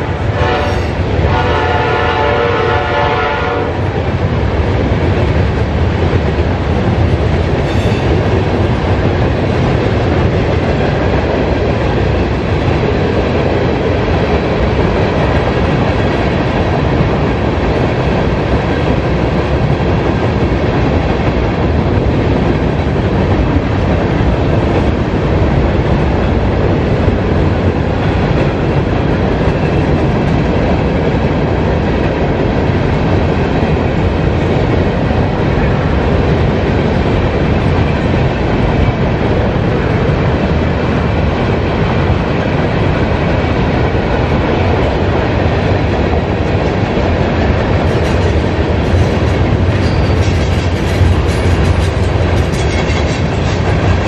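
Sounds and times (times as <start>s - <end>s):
freight train rolling past: 0.0s - 54.0s
steel wheels rumbling on rails: 0.0s - 54.0s.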